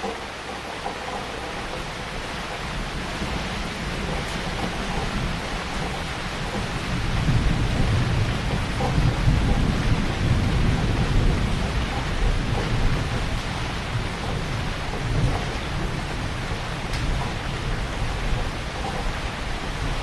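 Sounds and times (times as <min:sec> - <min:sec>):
heavy rain falling: 0:00.0 - 0:20.0
low rumble of thunder: 0:01.8 - 0:20.0.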